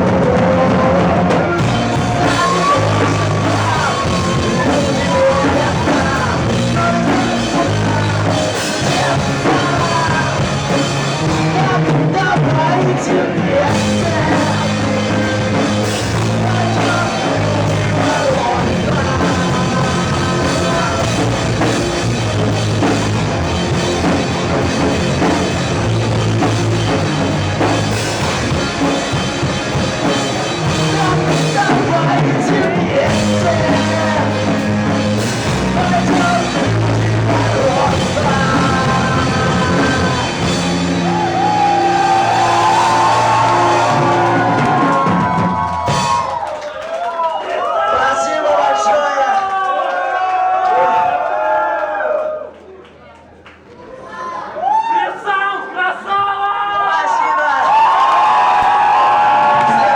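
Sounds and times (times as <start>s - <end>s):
rock band playing instrumental: 0.0s - 46.6s, 58.2s - 59.9s.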